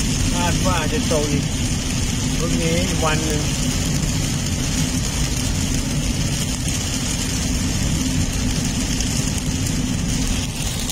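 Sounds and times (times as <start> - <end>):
car engine rumble: 0.0 - 10.9
heavy rain on car roof: 0.0 - 10.9.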